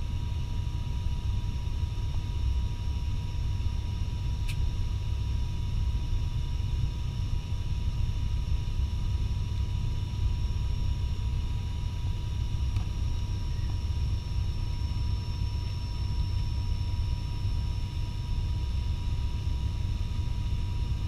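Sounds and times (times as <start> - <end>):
turboprop engine rumble and whine: 0.0 - 21.0.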